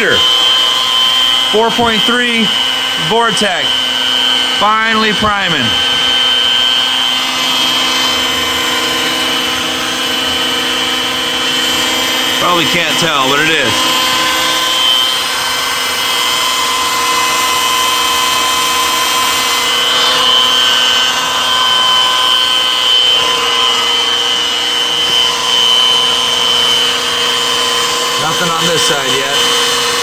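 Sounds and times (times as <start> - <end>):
power drill whining under load: 0.0 - 30.0.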